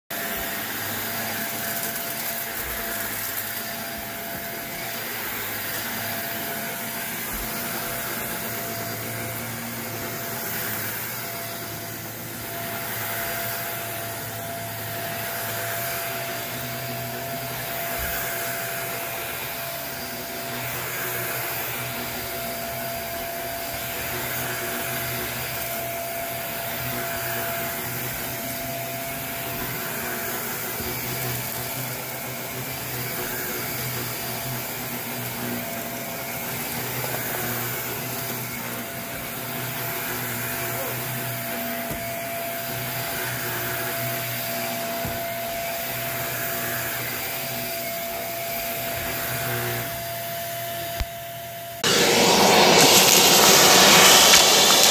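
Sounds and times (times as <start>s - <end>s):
vacuum cleaner running over carpet: 0.0s - 54.9s.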